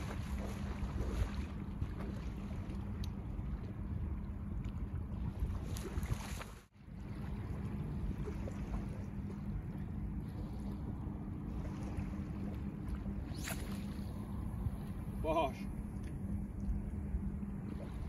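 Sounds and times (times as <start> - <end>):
small waves on shore: 0.0 - 16.2, 17.4 - 18.0.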